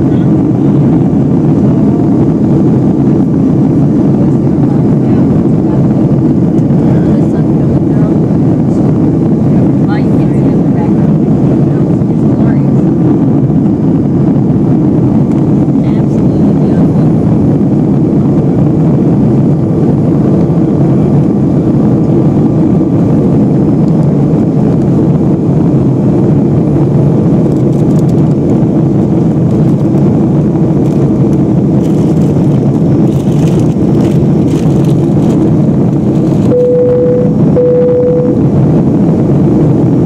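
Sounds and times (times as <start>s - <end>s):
airplane cabin roar: 0.0s - 40.0s.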